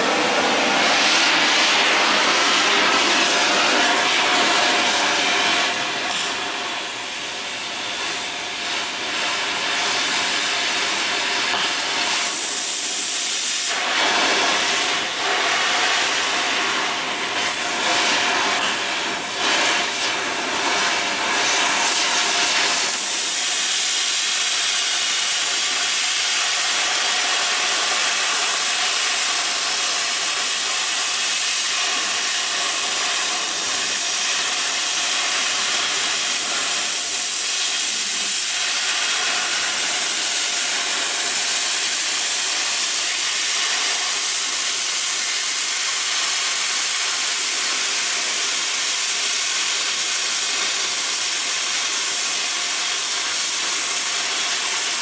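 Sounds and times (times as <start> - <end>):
cutting torch hissing: 0.0 - 55.0.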